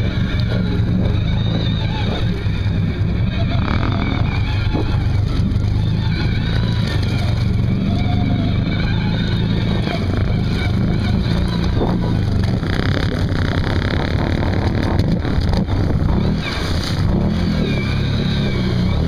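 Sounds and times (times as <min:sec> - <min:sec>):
quad bike engine running: 0:00.0 - 0:19.0
vehicle wading through water: 0:00.0 - 0:19.0.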